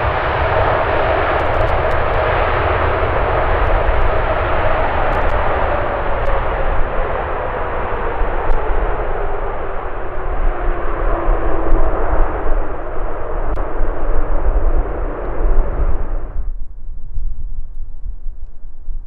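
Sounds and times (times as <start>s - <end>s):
jet airliner roaring past: 0.0s - 16.5s.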